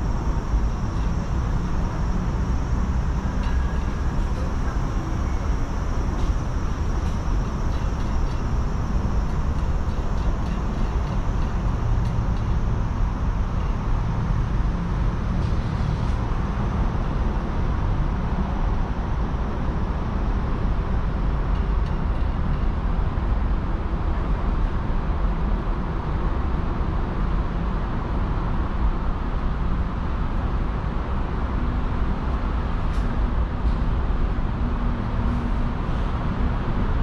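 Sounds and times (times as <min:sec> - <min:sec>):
distant city traffic rumble: 0:00.0 - 0:37.0.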